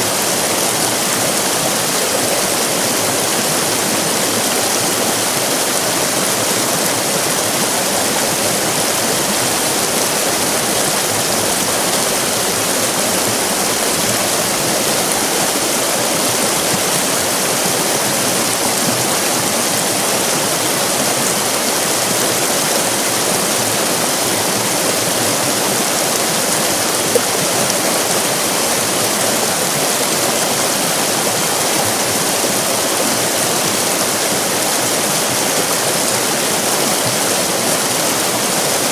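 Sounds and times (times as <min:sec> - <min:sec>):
river rapids rushing: 0:00.0 - 0:38.9.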